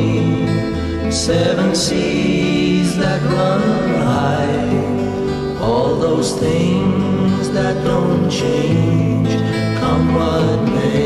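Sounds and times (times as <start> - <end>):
guitar accompaniment: 0.0 - 11.0
voices singing in harmony: 0.0 - 11.0.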